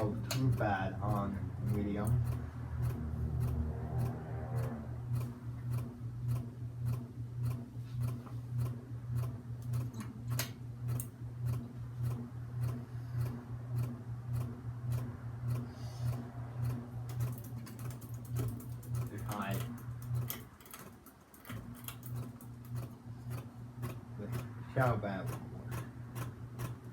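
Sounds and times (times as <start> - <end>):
ceiling fan motor hum: 0.0 - 26.9
light regular ticking: 0.0 - 26.9.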